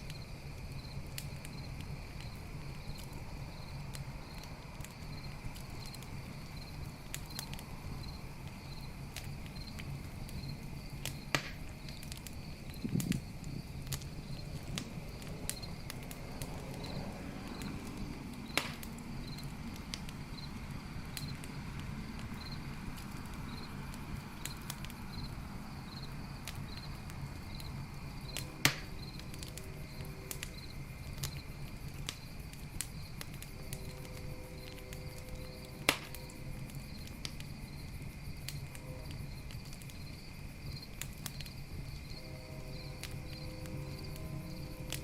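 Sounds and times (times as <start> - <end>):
campfire crackling and popping: 0.0 - 45.0
crickets chirping: 0.0 - 45.0
low rumble of fire: 0.0 - 45.0.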